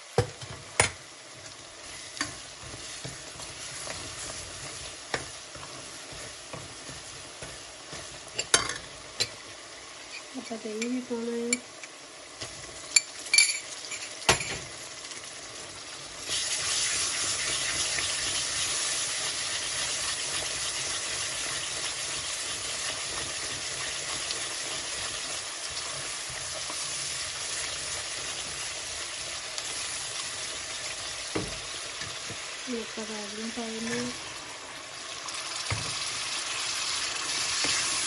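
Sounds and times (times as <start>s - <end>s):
food sizzling in a pan: 0.0s - 38.0s.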